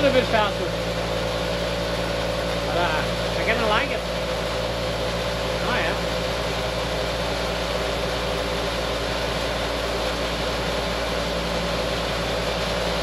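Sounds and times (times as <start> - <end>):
vibrating motor humming: 0.0 - 13.0.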